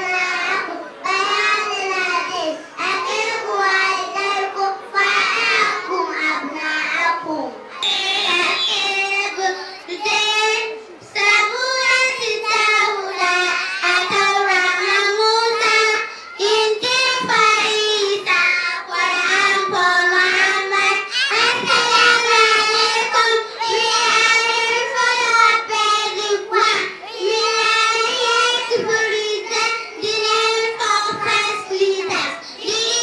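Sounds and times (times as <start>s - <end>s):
girls singing in unison: 0.0s - 33.0s.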